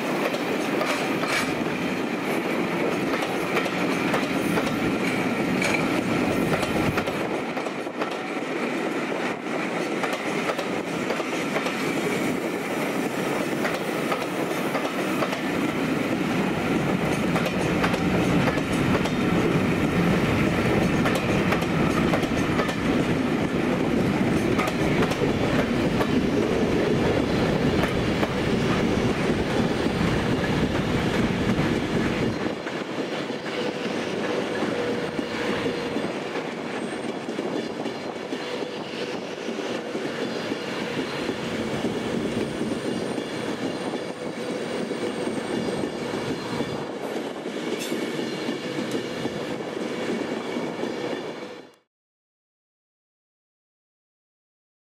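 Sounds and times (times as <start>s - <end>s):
train coaches rolling on rails: 0.0s - 51.7s.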